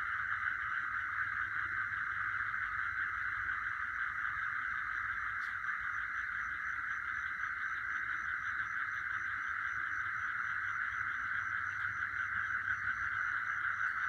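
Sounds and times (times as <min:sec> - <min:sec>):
dense insect trill: 0:00.0 - 0:14.0.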